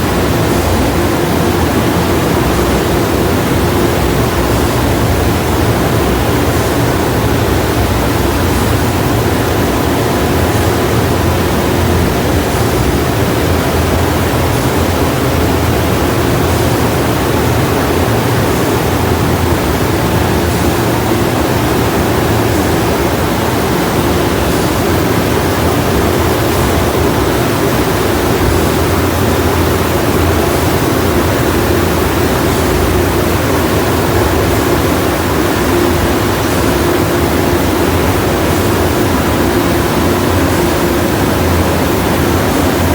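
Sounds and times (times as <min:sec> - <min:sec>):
car wash blower dryers running: 0:00.0 - 0:42.9.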